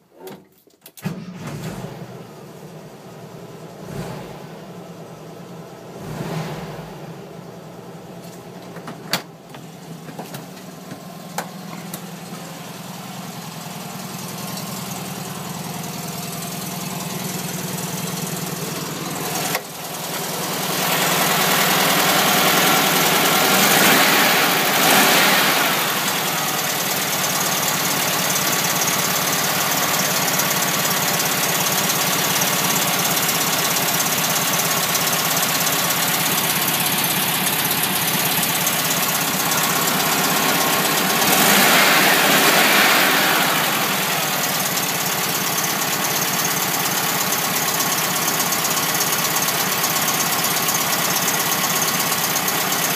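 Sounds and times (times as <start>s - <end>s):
car engine idling and revving: 1.1s - 52.9s.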